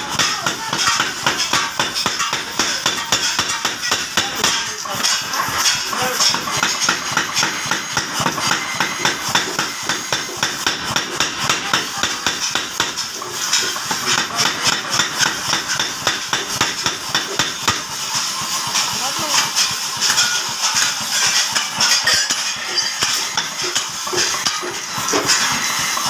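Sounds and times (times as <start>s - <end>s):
power hammer pounding hot steel: 0.0s - 26.0s.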